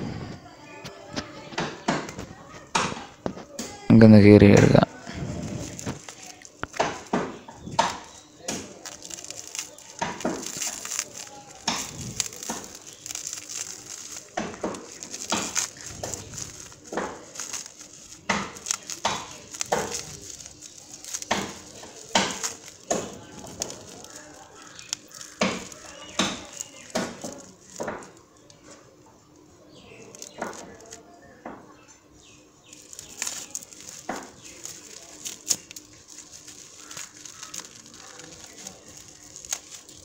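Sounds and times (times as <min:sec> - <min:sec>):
bubble wrap crinkling: 0:00.1 - 0:40.0.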